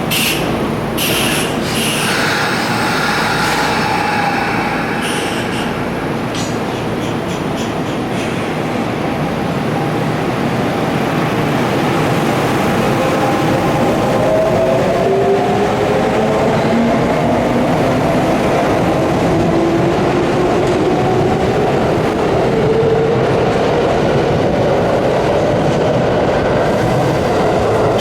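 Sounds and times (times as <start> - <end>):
wheels rumbling on rail: 0.0 - 28.0.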